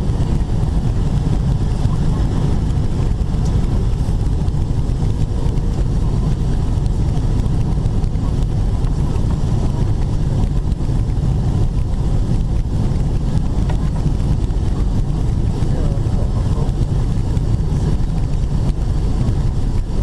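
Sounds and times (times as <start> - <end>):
low airplane cabin rumble: 0.0 - 20.0.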